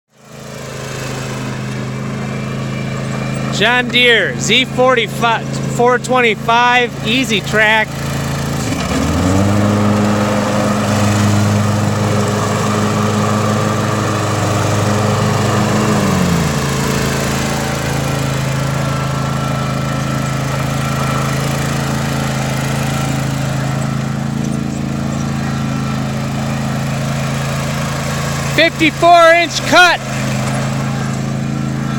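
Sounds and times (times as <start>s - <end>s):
mower engine running: 0.1s - 31.9s.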